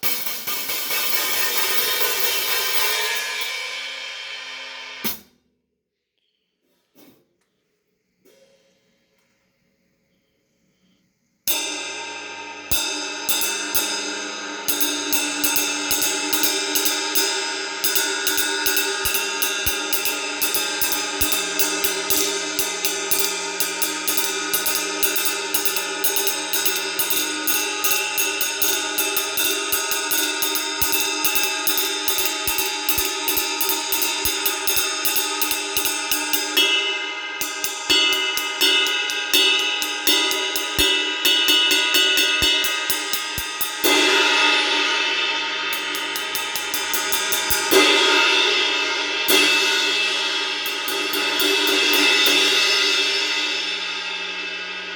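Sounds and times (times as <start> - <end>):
cymbals being played: 0.0 - 5.3, 11.5 - 54.9.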